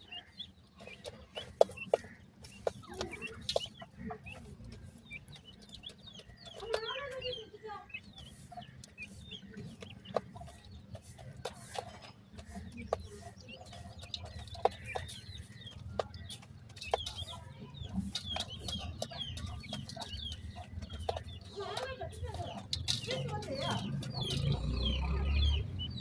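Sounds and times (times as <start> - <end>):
beaks ticking on gravel: 0.0 - 26.0
young birds chirping: 0.0 - 26.0.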